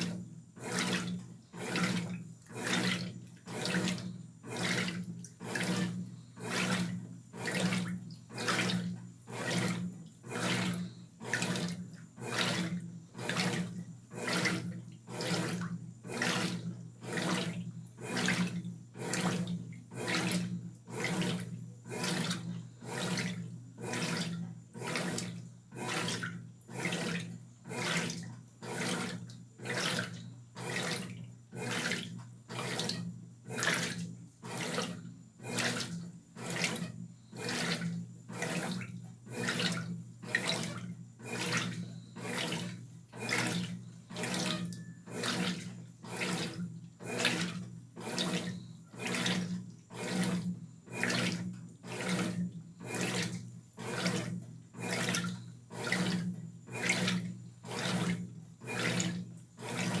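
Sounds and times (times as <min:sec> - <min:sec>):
washing machine motor hum: 0:00.0 - 1:00.0
water and clothes sloshing: 0:00.0 - 1:00.0.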